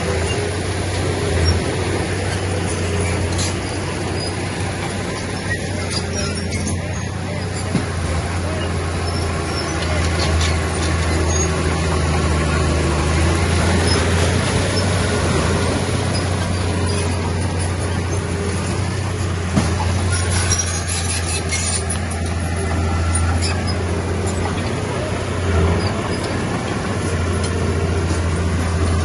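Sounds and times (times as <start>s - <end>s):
diesel engine low drone: 0.0s - 29.0s.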